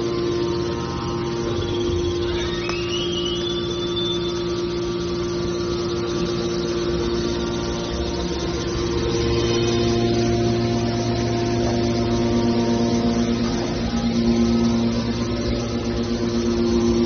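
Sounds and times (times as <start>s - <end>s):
baler machine hum: 0.0s - 17.0s
faint high whine: 0.0s - 17.0s.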